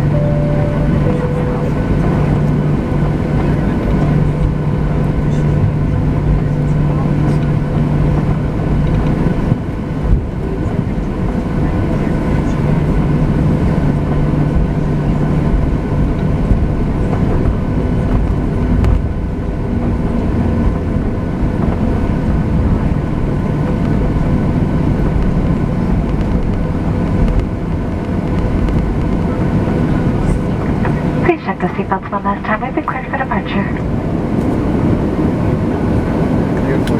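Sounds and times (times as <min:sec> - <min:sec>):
jet engines rumbling with whine: 0:00.0 - 0:36.9.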